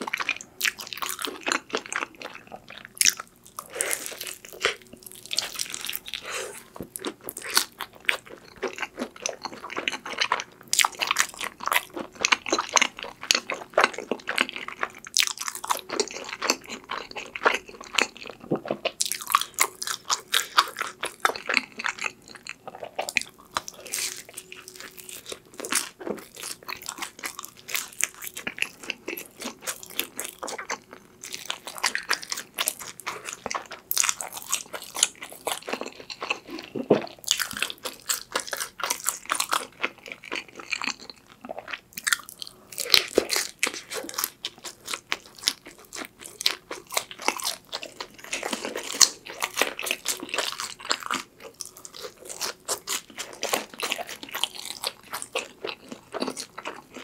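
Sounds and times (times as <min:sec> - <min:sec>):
biting and chewing pizza: 0:00.0 - 0:57.0
crisp crunches and mouth sounds: 0:00.1 - 0:57.0.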